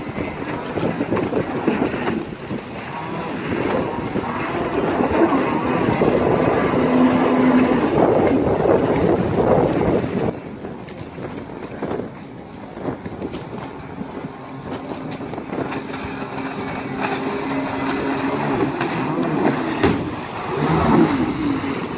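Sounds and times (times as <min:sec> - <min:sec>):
jet ski engine running: 0:00.0 - 0:21.9.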